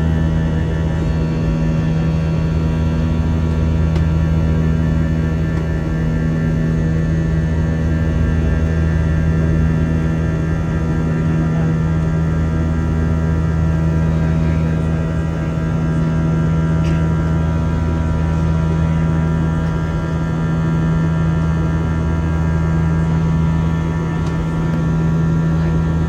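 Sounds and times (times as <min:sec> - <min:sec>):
aircraft cabin engine drone: 0:00.0 - 0:26.0.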